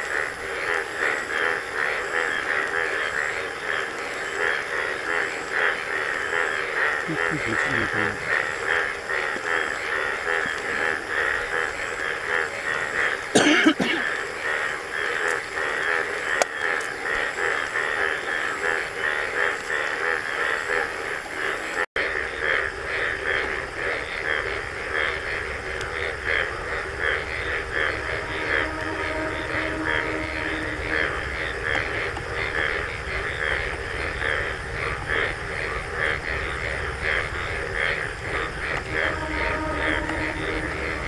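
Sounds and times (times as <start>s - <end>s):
fast-pulsing insect chorus: 0.0s - 41.0s.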